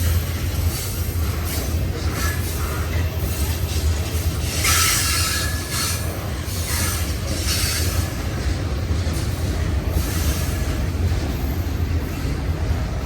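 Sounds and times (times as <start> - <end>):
wheel squeal on rails: 0.0 - 12.3
freight train cars rumbling: 0.0 - 13.0.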